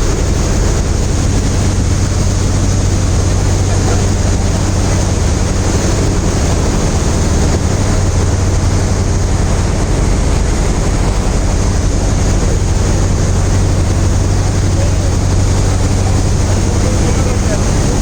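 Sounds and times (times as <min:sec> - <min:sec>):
engine drone: 0:00.0 - 0:18.0
water noise: 0:00.0 - 0:18.0
wind: 0:00.0 - 0:18.0.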